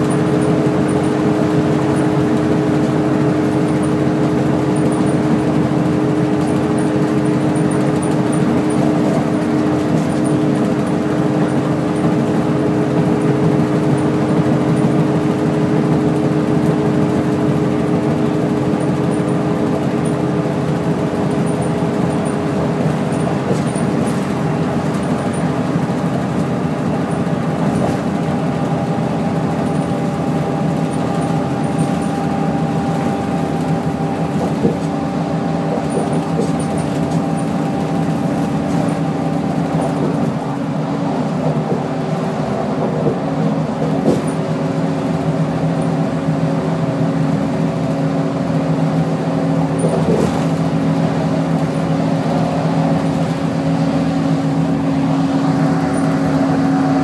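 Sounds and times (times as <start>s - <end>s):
bus engine hum: 0.0s - 57.0s.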